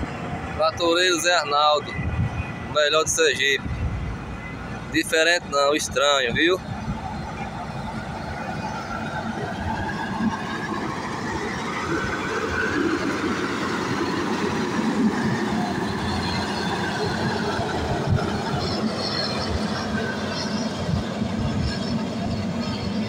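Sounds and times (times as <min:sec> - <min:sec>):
diesel engine running under load: 0:00.0 - 0:23.0.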